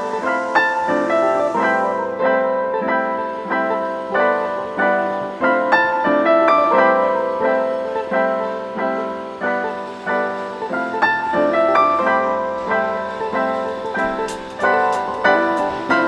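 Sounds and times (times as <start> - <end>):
piano playing: 0.0 - 16.0.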